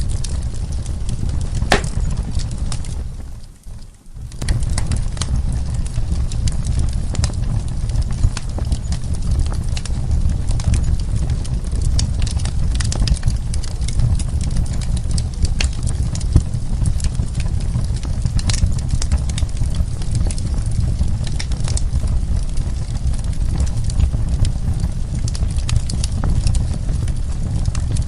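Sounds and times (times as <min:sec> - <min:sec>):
low rumble of flames: 0:00.0 - 0:28.0
wood crackling and popping: 0:00.0 - 0:28.0.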